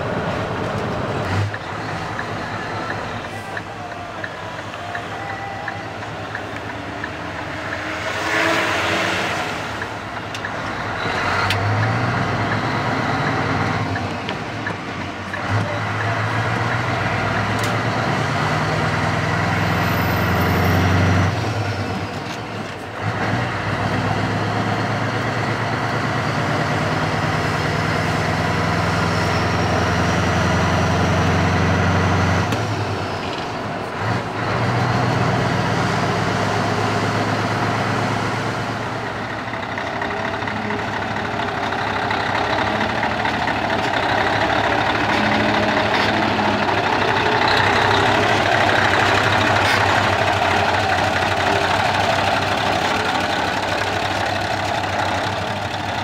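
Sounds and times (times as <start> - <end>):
diesel truck engine accelerating: 0.0 - 56.0.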